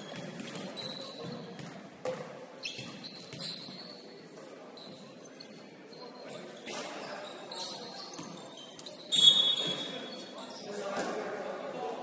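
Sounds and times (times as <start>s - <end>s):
sneaker squeaks: 0.0s - 11.3s.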